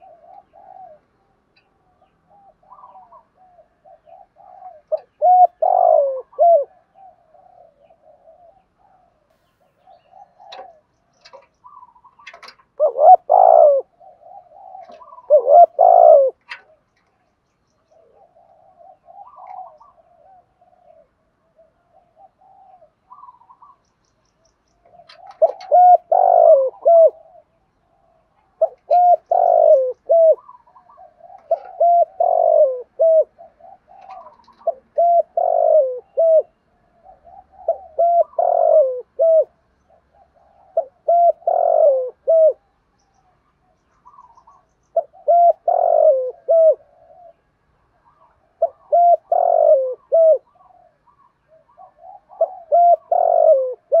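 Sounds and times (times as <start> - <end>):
dove cooing: 0.0 - 17.2, 17.8 - 23.9, 24.8 - 54.0.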